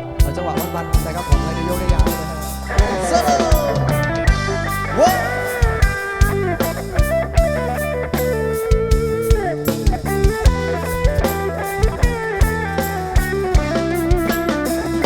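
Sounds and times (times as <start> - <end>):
bass line: 0.0 - 15.0
drum kit beat: 0.0 - 15.0
lead guitar melody: 0.0 - 15.0.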